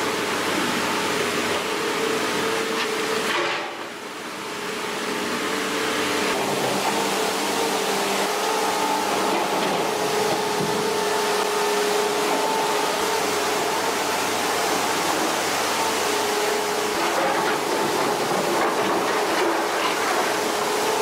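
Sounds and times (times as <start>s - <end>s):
constant mechanical whine: 0.0s - 21.0s
excavator running: 0.0s - 21.0s.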